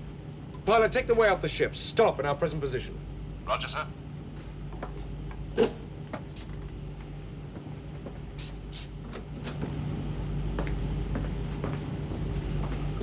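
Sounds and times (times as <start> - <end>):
low hum of ship machinery: 0.0 - 13.0.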